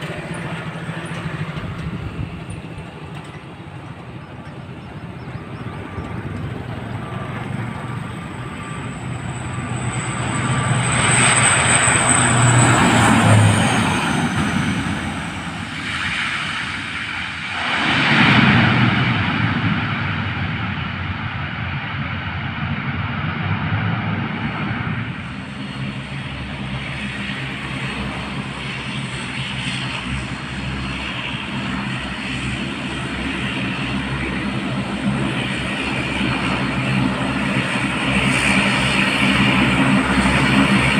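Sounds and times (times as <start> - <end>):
airliner engines roaring: 0.0 - 40.9
high jet engine whine: 0.0 - 40.9.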